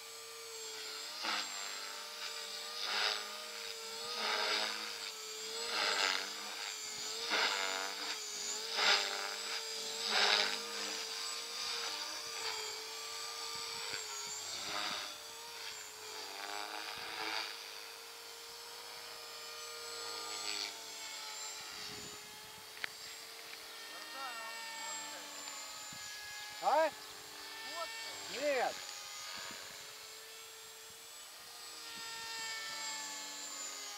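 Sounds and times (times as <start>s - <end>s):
rc helicopter motor whine: 0.0s - 33.9s.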